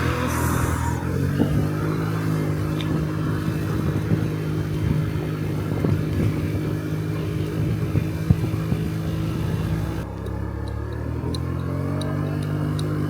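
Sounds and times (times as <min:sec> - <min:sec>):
scooter engine humming: 0:00.0 - 0:13.0.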